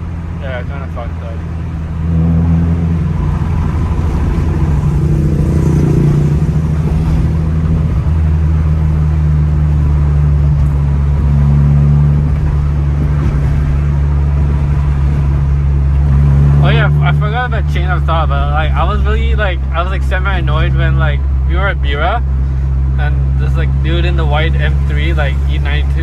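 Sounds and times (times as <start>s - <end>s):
car engine running: 0.0s - 26.0s
tyre and road noise: 0.0s - 26.0s.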